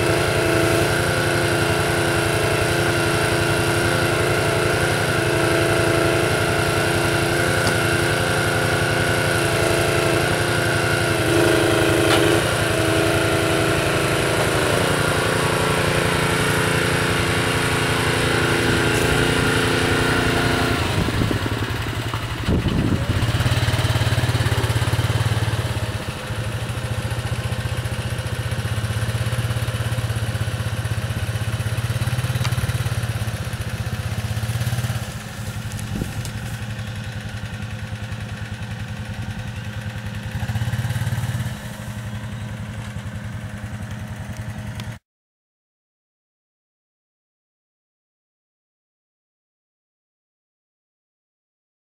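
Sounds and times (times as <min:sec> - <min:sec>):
atv engine pulling trailer: 0:00.0 - 0:45.0
small engines running: 0:00.0 - 0:45.0.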